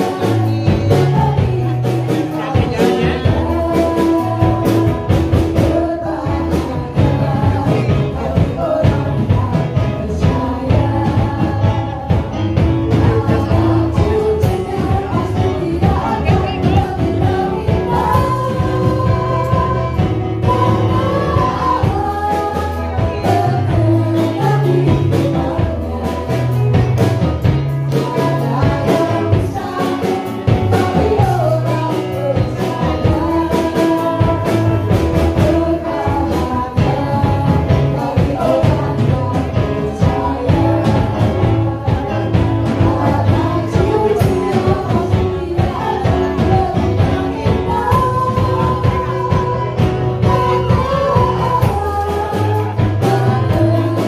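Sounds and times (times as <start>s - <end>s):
band with drums bass and keyboard: 0.0s - 54.0s
women singing: 0.0s - 54.0s.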